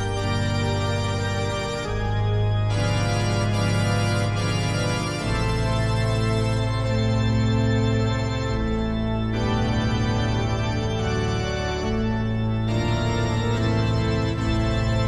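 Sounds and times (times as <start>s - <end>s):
organ chords: 0.0s - 15.0s.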